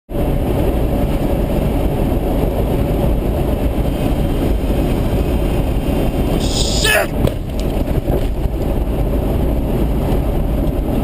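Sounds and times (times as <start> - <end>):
truck engine and road rumble: 0.1 - 11.0.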